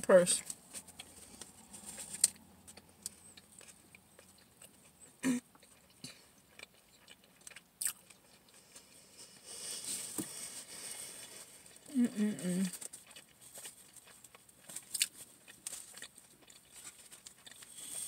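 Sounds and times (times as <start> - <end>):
person chewing food: 0.4 - 18.0.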